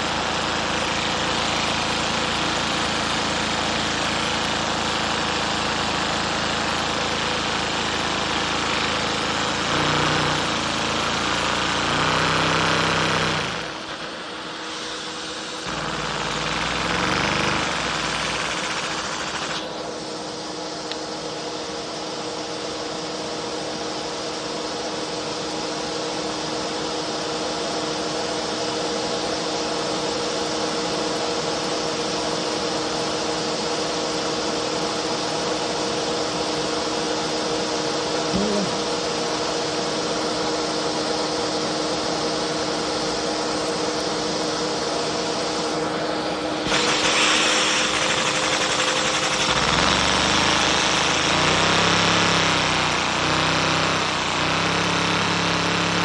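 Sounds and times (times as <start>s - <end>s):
turbine idling with whirring whine: 0.0s - 56.0s.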